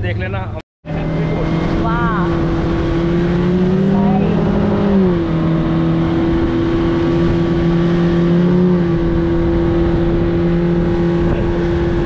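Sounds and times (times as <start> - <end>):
outboard motor running fast: 0.0 - 12.0
water rushing past hull: 1.0 - 12.0.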